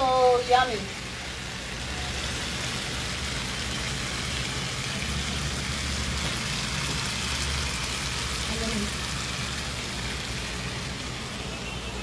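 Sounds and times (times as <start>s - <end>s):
chicken and potatoes sizzling: 0.0s - 12.0s.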